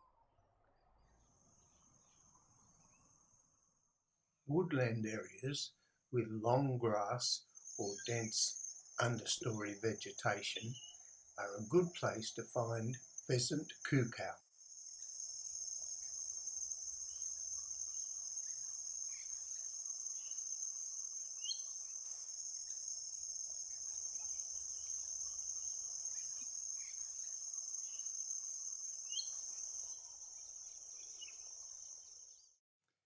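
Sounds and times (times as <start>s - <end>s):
insect chorus: 1.0s - 32.6s.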